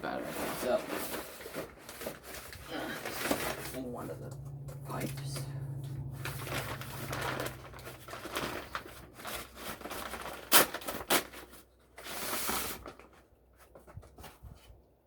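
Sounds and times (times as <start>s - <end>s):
packaging rustling and crinkling: 0.0s - 4.0s, 5.7s - 14.6s.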